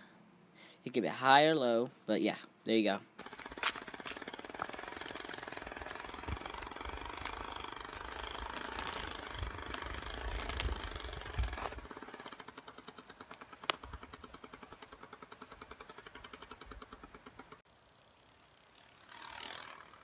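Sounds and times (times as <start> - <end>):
card rattling against bicycle spokes: 3.2 - 20.0.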